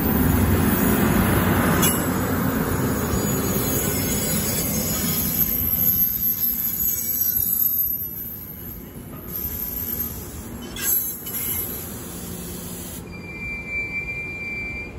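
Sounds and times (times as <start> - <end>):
high wheel squeal: 0.0 - 14.9
train coaches rolling over rails: 0.0 - 14.9.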